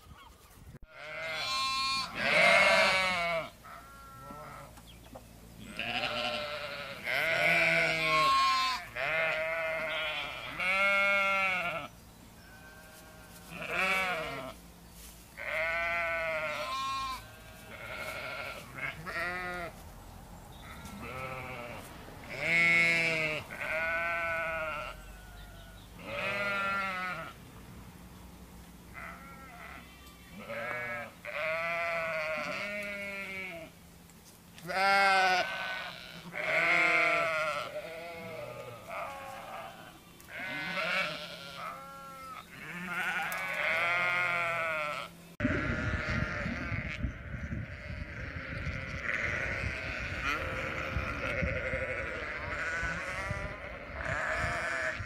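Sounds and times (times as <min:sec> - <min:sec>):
sheep bleating: 0:00.9 - 0:04.7, 0:05.6 - 0:14.6, 0:15.4 - 0:19.7, 0:20.6 - 0:27.4, 0:29.0 - 0:33.7, 0:34.6 - 0:55.0.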